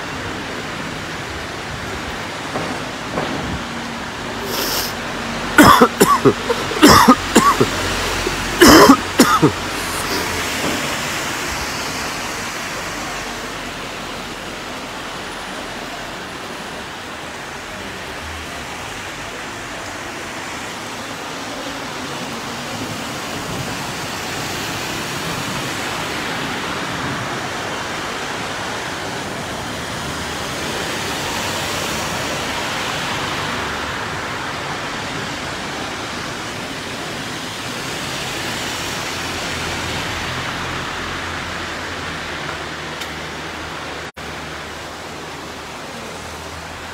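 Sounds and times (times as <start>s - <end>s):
cars driving through water: 0.0s - 46.9s
heavy rain on flooded street: 0.0s - 46.9s.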